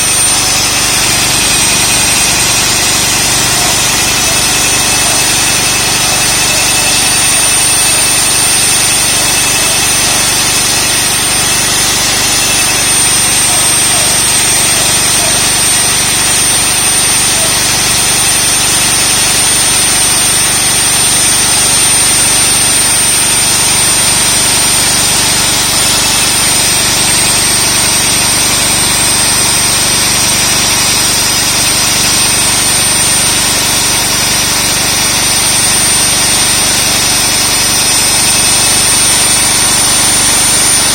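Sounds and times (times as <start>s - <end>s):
core drill grinding concrete: 0.0s - 40.9s
high-pitched drill whine: 0.0s - 40.9s.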